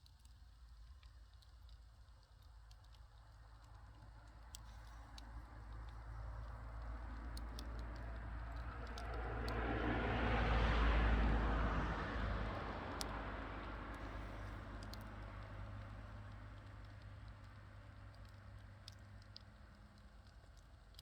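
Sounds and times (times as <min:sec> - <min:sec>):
fire crackling: 0:00.0 - 0:21.0.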